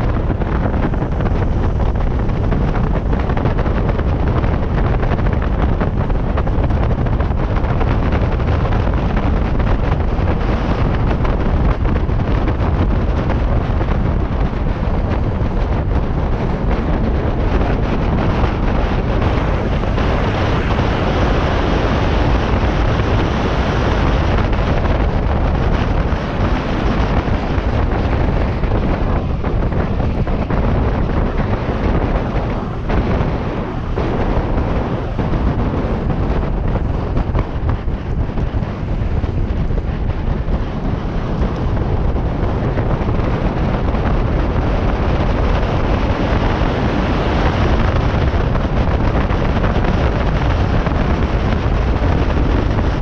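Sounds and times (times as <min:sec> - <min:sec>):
wheels rumbling on asphalt: 0:00.0 - 0:53.0
wind buffeting microphone: 0:00.0 - 0:53.0.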